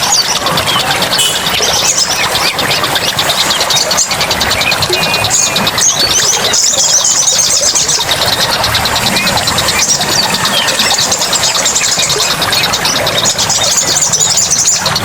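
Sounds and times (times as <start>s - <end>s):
small birds chirping and whistling: 0.0s - 15.0s.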